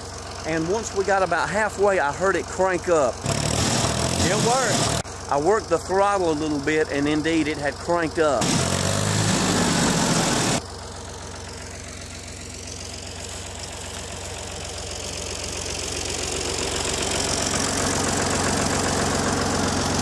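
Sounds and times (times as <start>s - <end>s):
diesel tractor engine idling: 0.0s - 20.0s.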